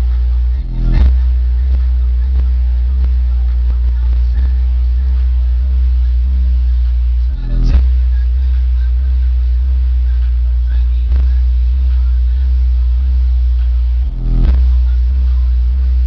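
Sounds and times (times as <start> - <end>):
heavy bass: 0.0 - 16.0
music through car speakers: 0.0 - 16.0.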